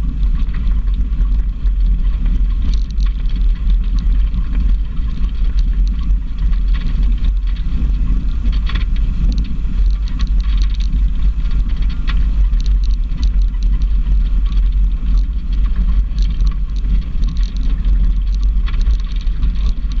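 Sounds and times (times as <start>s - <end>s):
stones crackling under tyres: 0.0s - 20.0s
vehicle engine rumble: 0.0s - 20.0s.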